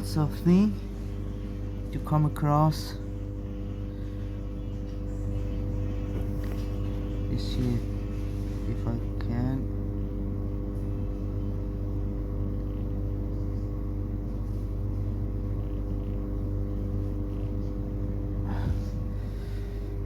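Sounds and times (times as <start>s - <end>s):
machine hum with pitched tones: 0.0s - 20.0s.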